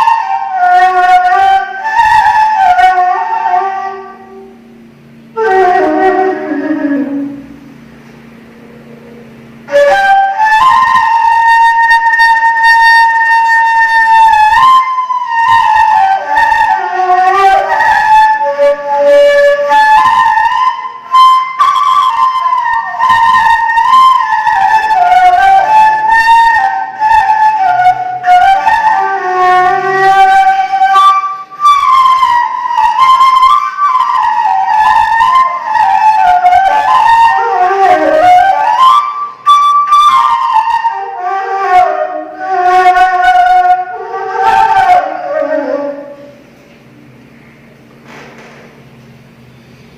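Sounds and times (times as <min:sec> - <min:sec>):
breathy reed flute melody: 0:00.0 - 0:07.7, 0:09.6 - 0:46.4.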